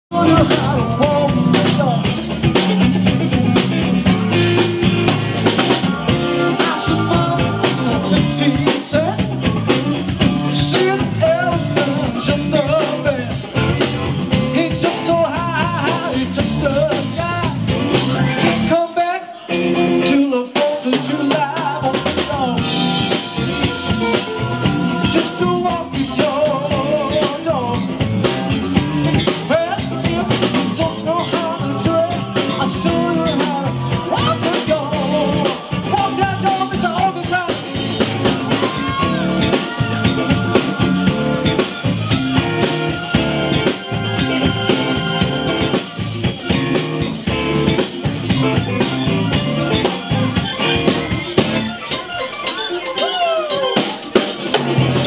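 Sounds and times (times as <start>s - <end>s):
bass guitar: 0.0s - 55.0s
man singing: 0.1s - 3.6s, 5.6s - 45.8s, 52.8s - 55.0s
drum kit: 0.1s - 55.0s
electric guitar: 0.1s - 55.0s
keyboards: 0.1s - 55.0s.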